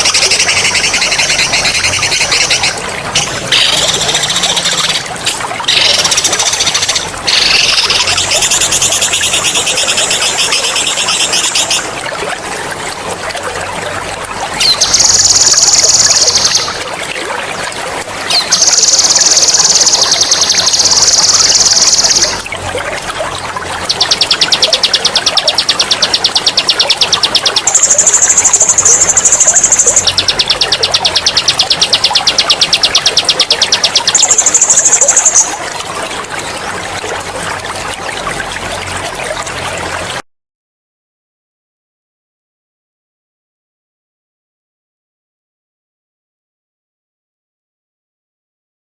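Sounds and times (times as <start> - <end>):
running water trickling: 0.0 - 40.2.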